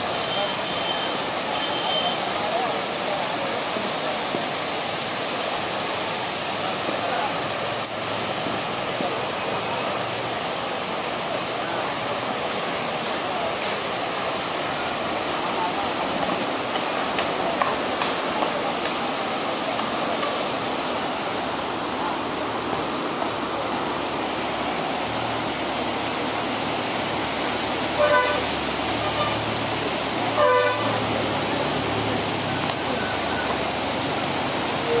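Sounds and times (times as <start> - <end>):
river rapids rushing: 0.0 - 35.0.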